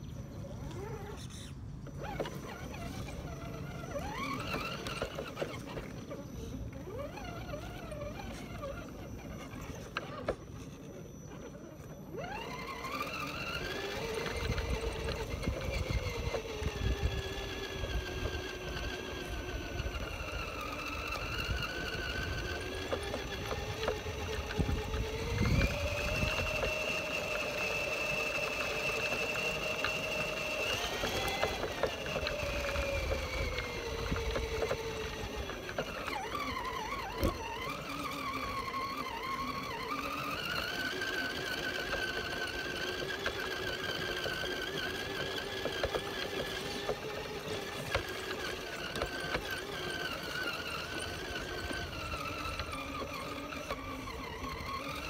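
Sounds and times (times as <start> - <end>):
electric motor and gears whining: 0.0 - 55.0
low rumble of wheels: 0.0 - 55.0.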